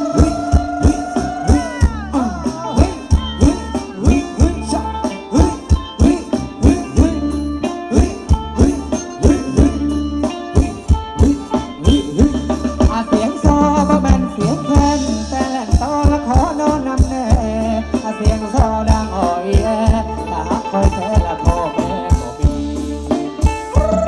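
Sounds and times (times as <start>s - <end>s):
fast drum beat: 0.0s - 24.0s
live band dance music: 0.0s - 24.0s
wavering melody line: 0.0s - 24.0s.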